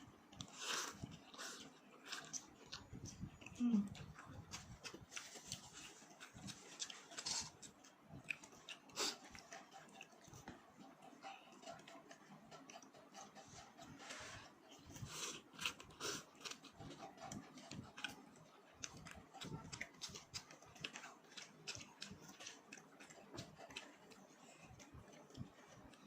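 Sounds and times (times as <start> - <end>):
chewing with mouth smacks: 0.3 - 26.0.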